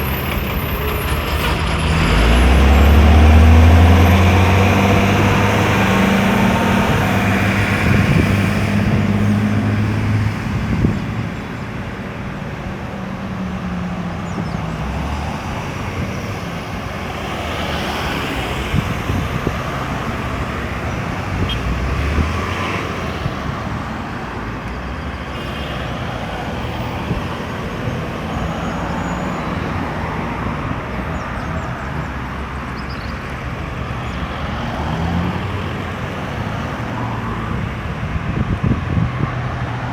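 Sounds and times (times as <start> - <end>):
road traffic: 0.0 - 39.9
vehicles passing: 0.0 - 39.9.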